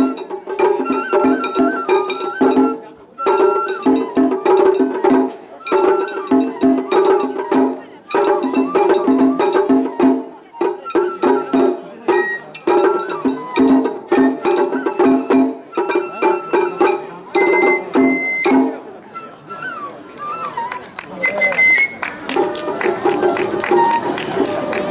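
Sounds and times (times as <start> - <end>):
taiko drum strokes: 0.0 - 19.0, 22.3 - 24.9
bamboo flute melody: 0.0 - 24.9.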